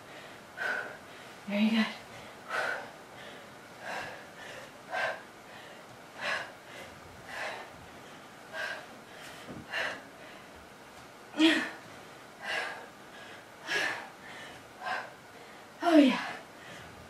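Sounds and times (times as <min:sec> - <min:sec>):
woman breathing hard: 0:00.0 - 0:17.0.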